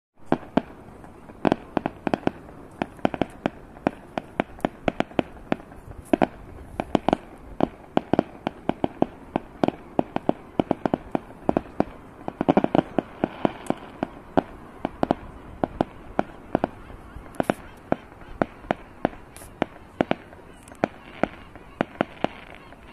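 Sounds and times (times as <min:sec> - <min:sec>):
fireworks bursting bangs: 0:00.2 - 0:22.9.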